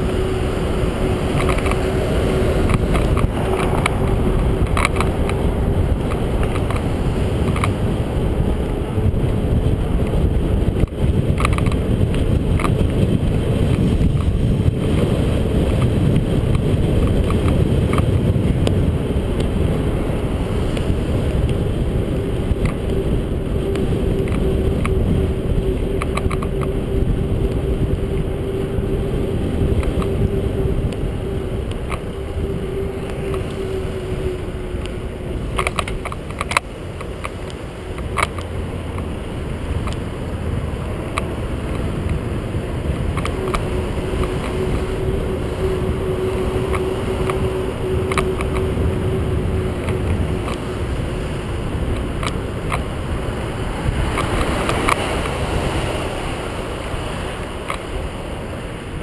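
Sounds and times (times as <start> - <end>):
road noise: 0.0 - 59.0
steady hum: 0.0 - 59.0
wind on microphone: 0.0 - 59.0.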